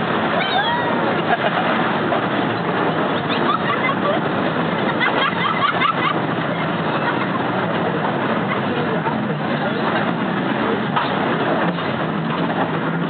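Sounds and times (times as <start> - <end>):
railway car rumbling and rattling: 0.0 - 13.0.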